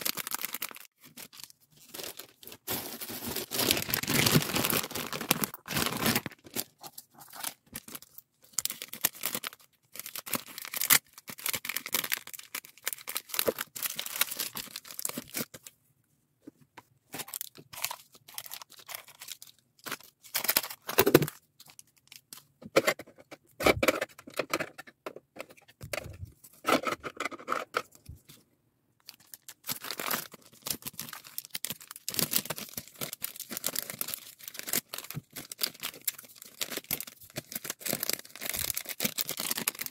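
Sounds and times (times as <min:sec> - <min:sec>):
plastic bags and wrappers crinkling: 0:00.0 - 0:15.7, 0:17.1 - 0:22.8, 0:29.0 - 0:39.9.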